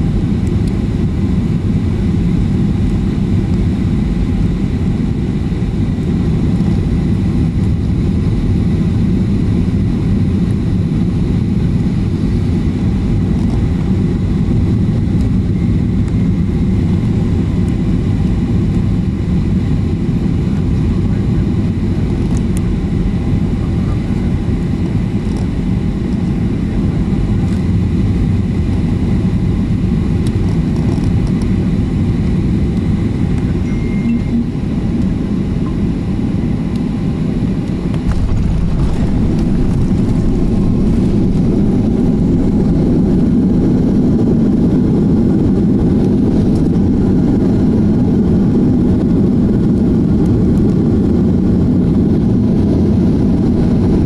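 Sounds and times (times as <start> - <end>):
jet engine rumble in cabin: 0.0 - 54.0.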